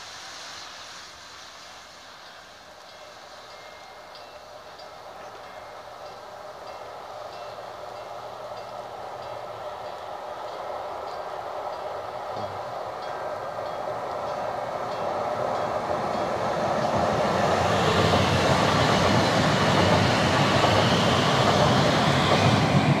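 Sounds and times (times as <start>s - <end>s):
passenger train passing: 0.0s - 23.0s.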